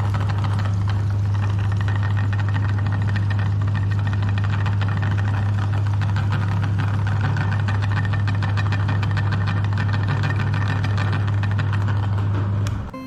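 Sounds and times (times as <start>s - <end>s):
fast continuous rattle: 0.0s - 12.9s
meat grinder motor hum: 0.0s - 12.9s.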